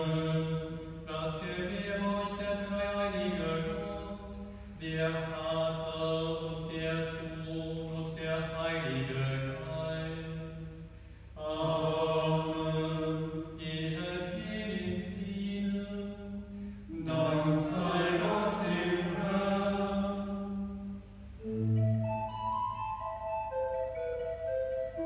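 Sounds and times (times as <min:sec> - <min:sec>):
slow hymn: 0:00.0 - 0:25.0.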